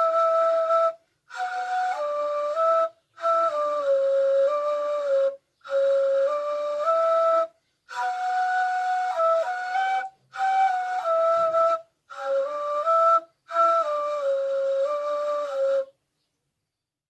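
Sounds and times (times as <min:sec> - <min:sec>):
breathy reed flute melody: 0:00.0 - 0:16.0.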